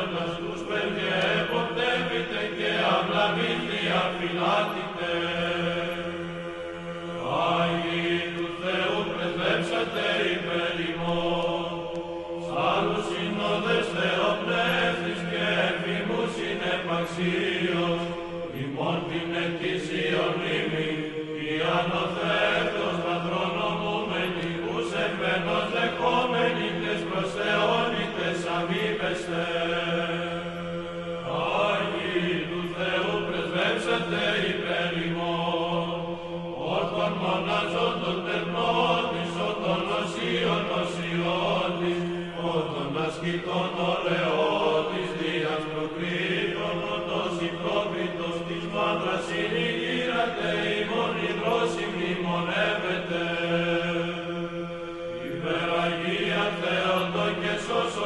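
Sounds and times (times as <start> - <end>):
voices singing church chant: 0.0 - 58.0.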